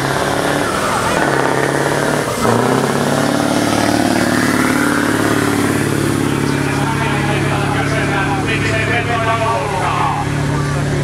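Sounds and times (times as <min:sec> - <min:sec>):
diesel truck engine pulling away: 0:00.0 - 0:11.0.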